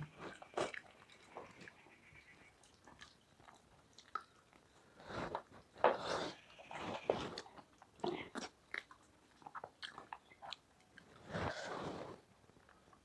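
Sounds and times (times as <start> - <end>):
people chewing and eating: 0.0 - 13.0.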